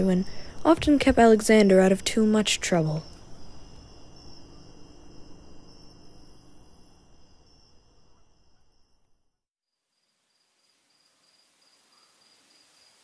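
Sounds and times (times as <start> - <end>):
crickets and insects chirring: 0.0 - 9.0, 9.9 - 13.0.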